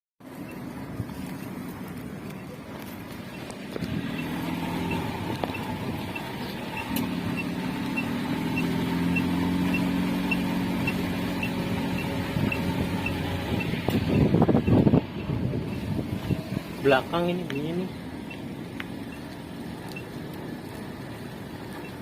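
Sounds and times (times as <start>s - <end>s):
car driving: 0.2s - 22.0s
light regular ticking: 0.3s - 22.0s.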